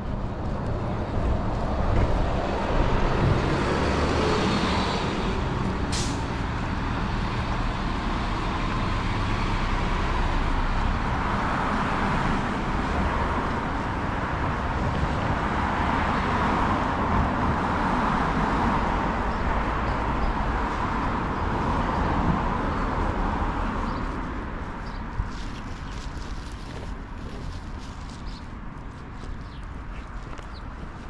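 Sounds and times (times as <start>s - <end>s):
road rumble: 0.0s - 31.0s
vehicles passing: 0.0s - 31.0s.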